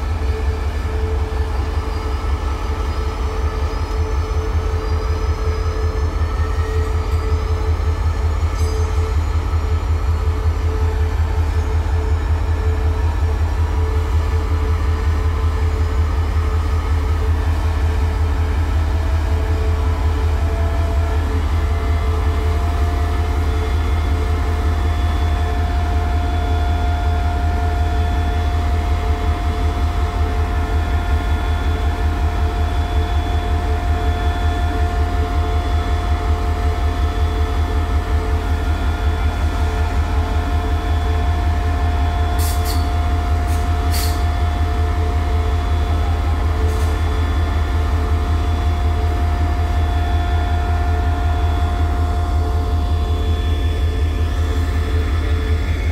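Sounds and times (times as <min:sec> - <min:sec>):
diesel locomotive engine rumble: 0:00.0 - 0:55.9.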